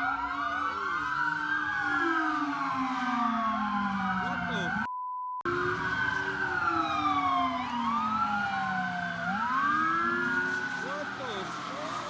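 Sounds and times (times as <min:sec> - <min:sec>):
emergency vehicle sirens wailing: 0:00.0 - 0:12.0.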